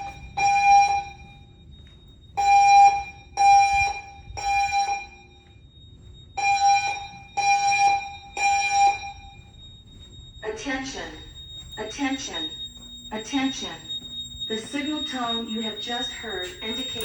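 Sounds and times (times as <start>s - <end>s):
fire alarm pulsing evacuation tone: 0.0s - 17.0s.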